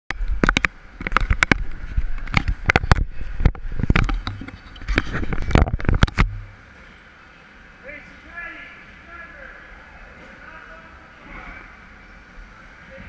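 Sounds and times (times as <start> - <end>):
low steady hum: 0.1 - 13.0.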